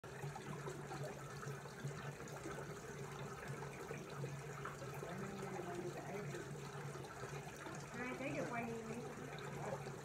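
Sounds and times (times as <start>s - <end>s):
water trickling in a pond: 0.0s - 10.0s.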